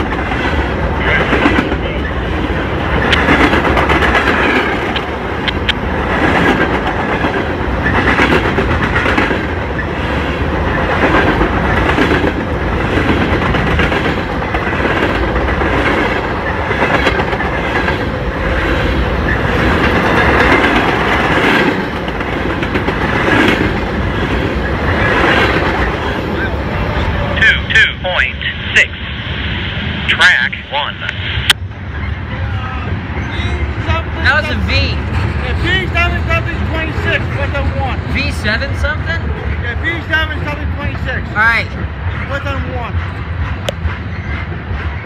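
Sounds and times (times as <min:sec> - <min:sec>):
steel wheels clickety-clack: 0:00.0 - 0:26.4, 0:33.1 - 0:45.0
freight train rumble: 0:00.0 - 0:45.0.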